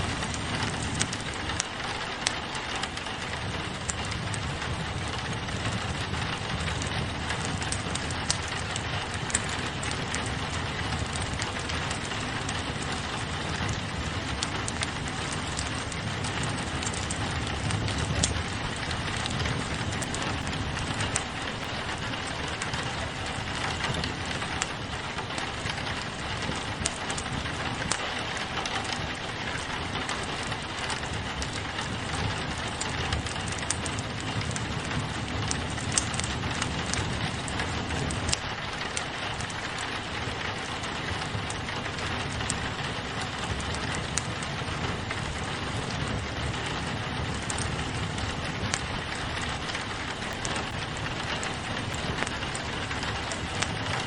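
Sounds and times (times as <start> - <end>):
rain pattering on a window: 0.0 - 54.0
wood fire crackling: 0.0 - 54.0.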